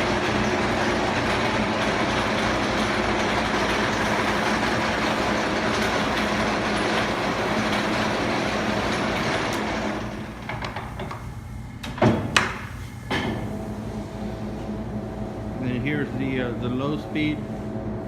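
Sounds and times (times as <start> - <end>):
lathe running: 0.0 - 11.6, 12.4 - 18.0.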